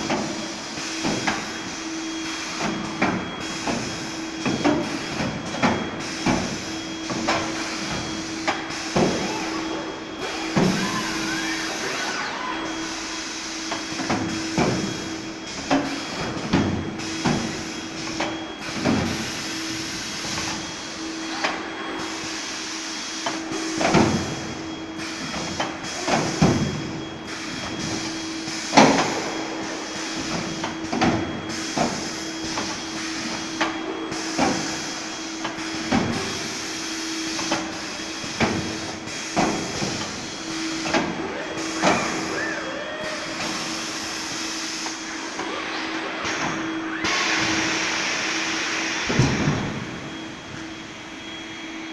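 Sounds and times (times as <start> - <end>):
machine hum and hiss: 0.0 - 51.9.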